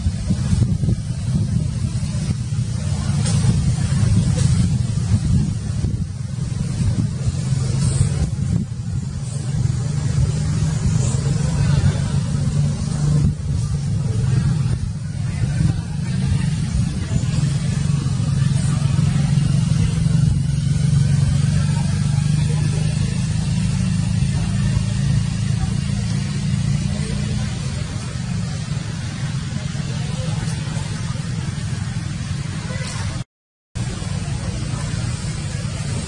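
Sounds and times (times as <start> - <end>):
low motor hum: 0.0 - 33.2.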